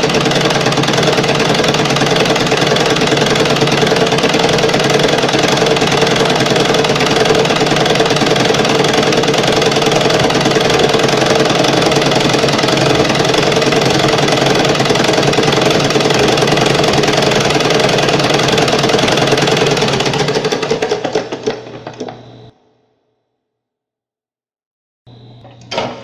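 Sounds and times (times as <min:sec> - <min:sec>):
sewing machine running: 0:00.0 - 0:22.5.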